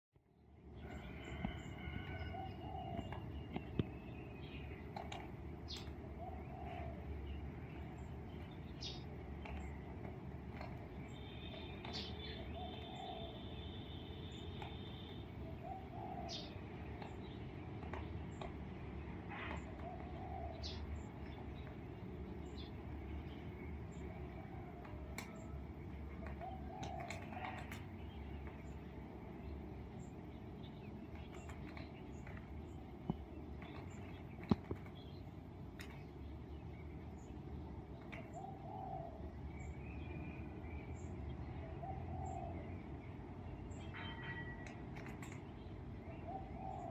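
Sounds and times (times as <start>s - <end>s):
birds chirping and calling: 0.8s - 46.9s.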